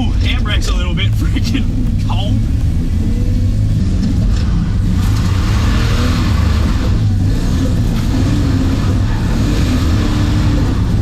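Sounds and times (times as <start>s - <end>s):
car engine under throttle: 0.0s - 11.0s.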